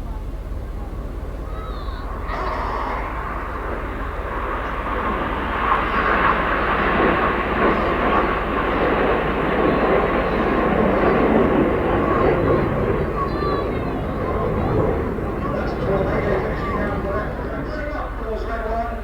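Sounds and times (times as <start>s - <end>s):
jets passing: 0.0s - 19.0s.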